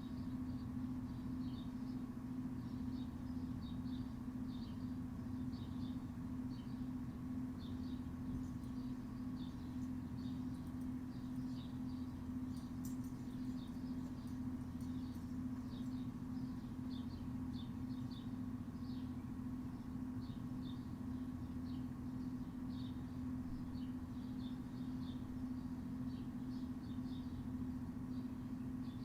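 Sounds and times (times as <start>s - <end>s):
low mechanical hum: 0.0s - 29.0s
small birds chirping: 0.0s - 29.0s.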